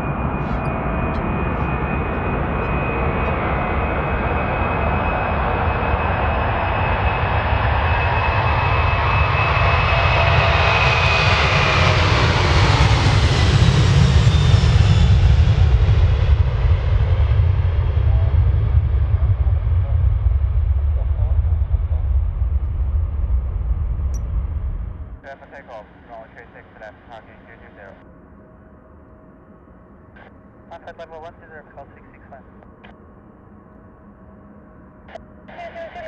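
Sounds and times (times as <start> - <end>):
jet engines roaring at takeoff: 0.0 - 28.1, 30.1 - 36.0.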